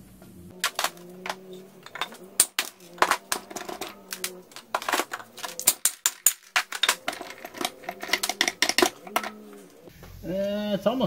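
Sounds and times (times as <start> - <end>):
metallic clicks and clanks: 0.5 - 9.9.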